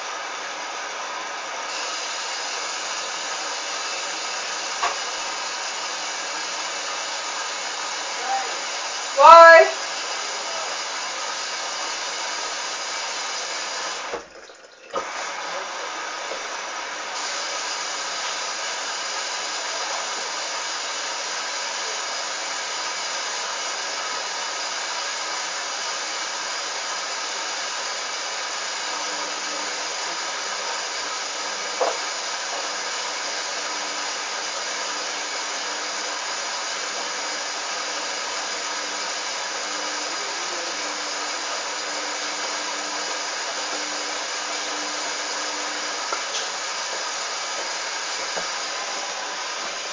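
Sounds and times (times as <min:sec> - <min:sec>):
washing machine running: 0:00.0 - 0:49.9.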